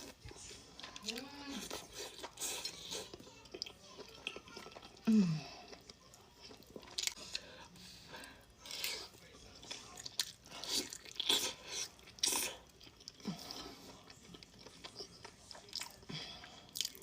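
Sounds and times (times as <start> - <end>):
wet chewing and crunching: 0.0 - 7.5, 8.5 - 17.0.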